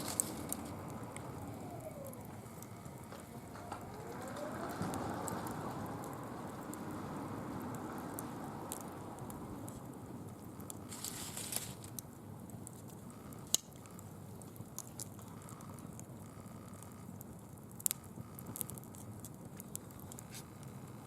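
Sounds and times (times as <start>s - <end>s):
dry leaves crackling in fire: 0.0s - 21.0s
sharp snaps of burning leaves: 0.0s - 21.0s.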